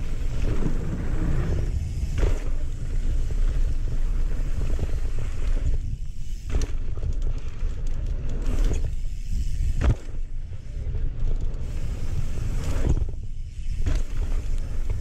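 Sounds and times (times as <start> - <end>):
tyre noise on dirt: 0.0 - 15.0.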